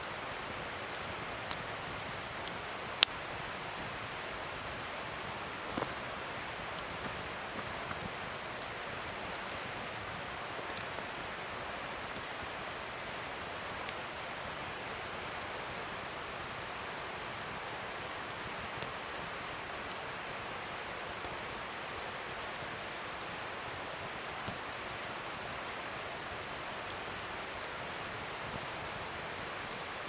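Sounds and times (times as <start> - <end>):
fire crackles and pops: 0.0 - 30.0
wood fire hissing: 0.0 - 30.0.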